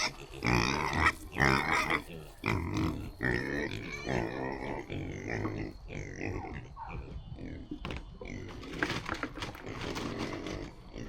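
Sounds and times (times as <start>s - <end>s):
pigs grunting and squealing: 0.0s - 11.0s.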